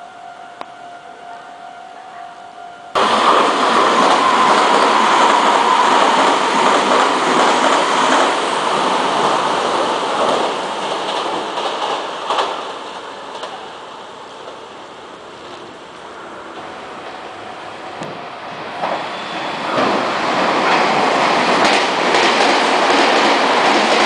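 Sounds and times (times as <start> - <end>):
train wheels rushing on rail: 2.9 - 24.0.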